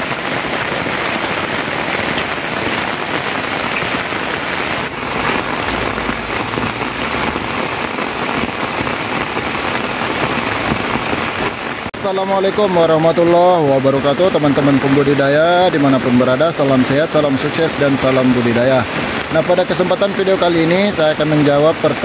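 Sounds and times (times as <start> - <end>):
rain on metal roof: 0.0 - 22.0
rainwater running off: 0.0 - 22.0.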